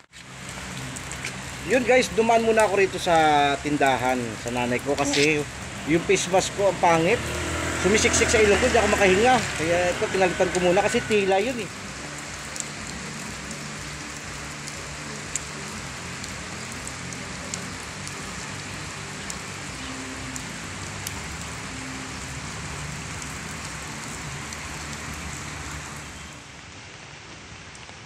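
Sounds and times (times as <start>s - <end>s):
rain on concrete pavement: 0.0s - 28.0s.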